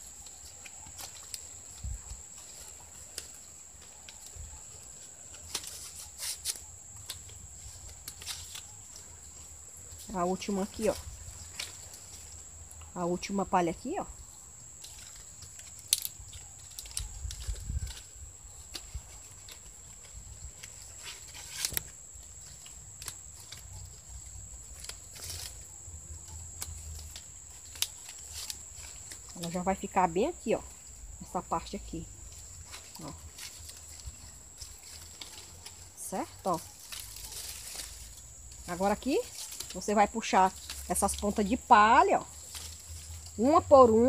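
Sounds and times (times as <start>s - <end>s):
palm leaves rustling and crackling: 0.0s - 44.0s.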